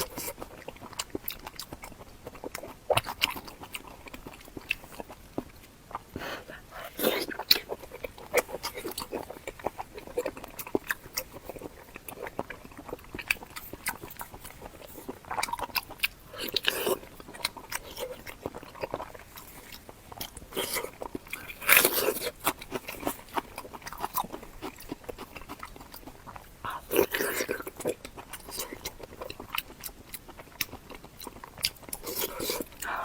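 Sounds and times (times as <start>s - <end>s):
person chewing and smacking: 0.0s - 33.0s.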